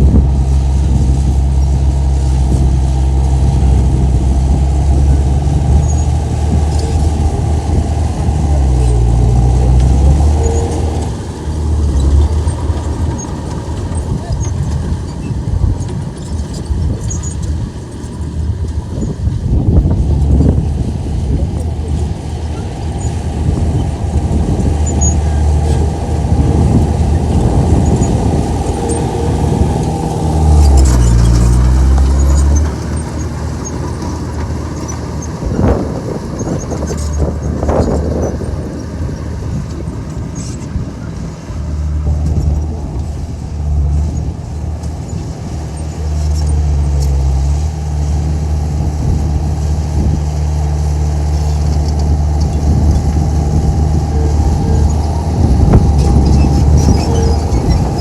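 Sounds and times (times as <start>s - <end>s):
bulldozer diesel engine working: 0.0s - 58.0s.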